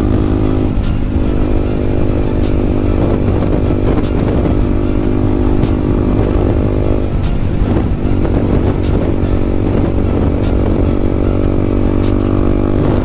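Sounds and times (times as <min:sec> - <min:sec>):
motorcycle engine through loud exhaust: 0:00.0 - 0:13.0.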